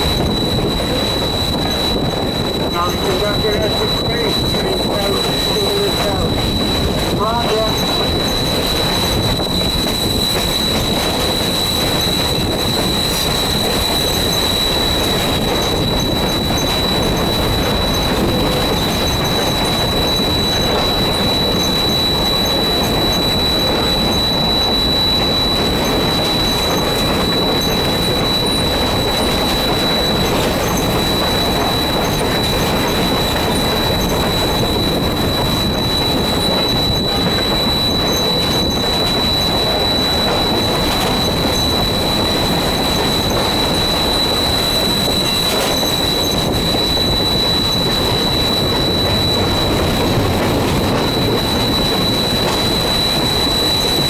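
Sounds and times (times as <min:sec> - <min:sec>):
high-pitched whine: 0:00.0 - 0:54.0
train rumble and rattle: 0:00.0 - 0:54.0.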